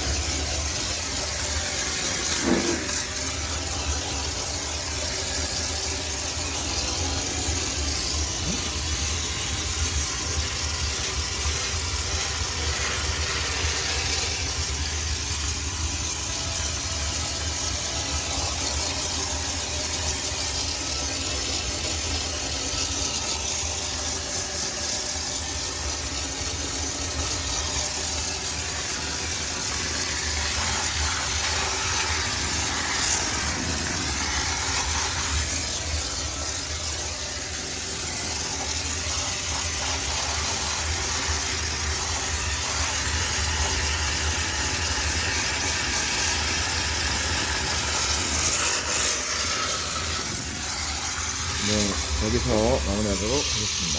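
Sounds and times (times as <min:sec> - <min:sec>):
steam cleaner hissing: 0:00.0 - 0:53.9.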